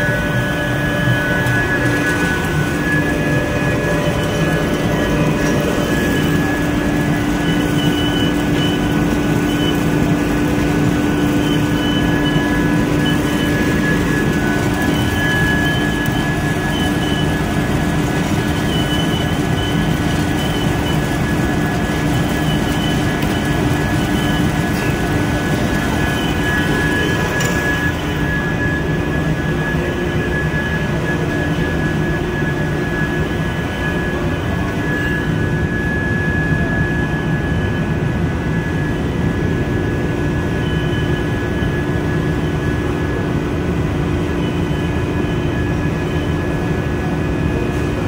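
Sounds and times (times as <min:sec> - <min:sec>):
pellet mill running: 0:00.0 - 0:48.0.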